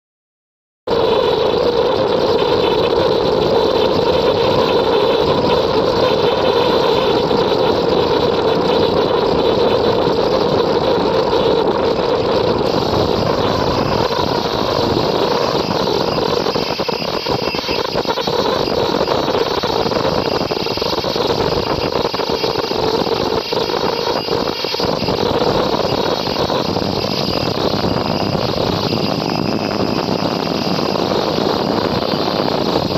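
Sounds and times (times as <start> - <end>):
high-pitched whine: 0.9 - 32.9
quilting machine running: 0.9 - 32.9.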